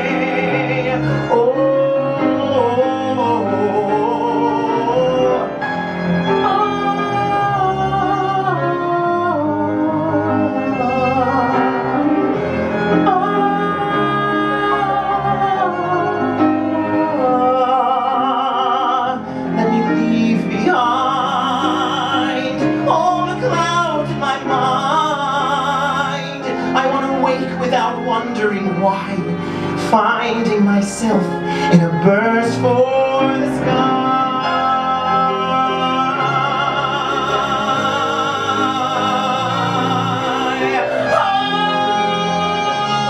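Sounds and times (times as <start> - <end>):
instrumental accompaniment: 0.0 - 43.0
person singing with vibrato: 0.0 - 43.0.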